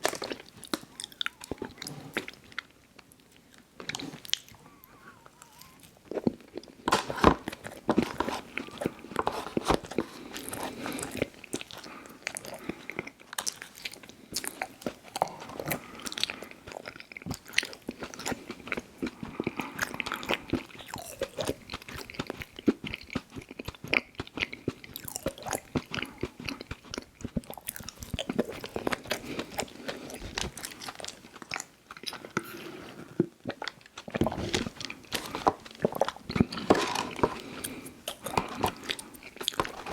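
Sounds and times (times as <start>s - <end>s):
person chewing snack cakes: 0.0s - 39.9s.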